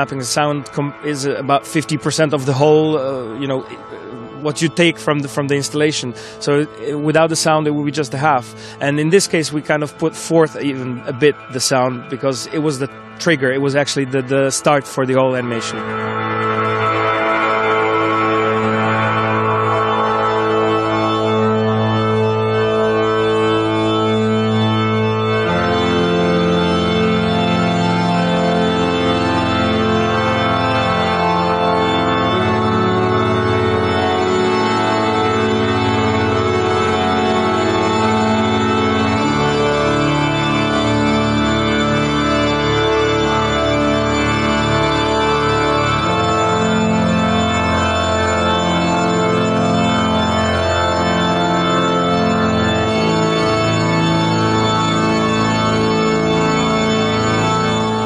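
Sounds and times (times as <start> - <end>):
deep bass organ note: 0.0 - 58.0
organ playing slow chords: 0.0 - 58.0.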